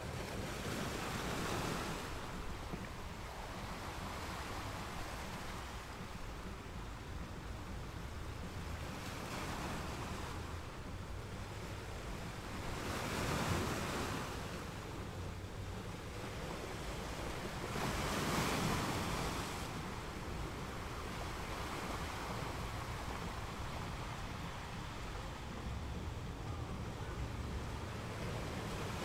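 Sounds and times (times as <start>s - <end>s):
ocean waves washing in: 0.0s - 29.0s.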